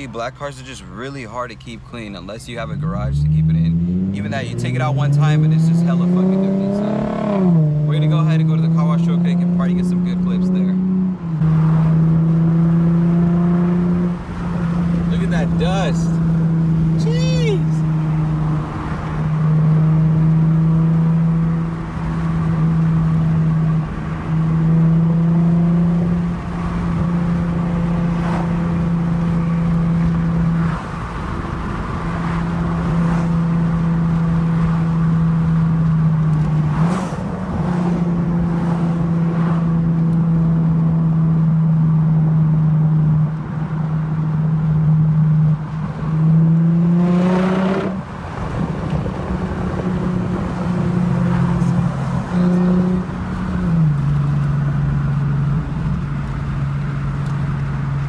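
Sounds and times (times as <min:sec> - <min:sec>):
car exhaust drone: 0:02.6 - 0:58.0.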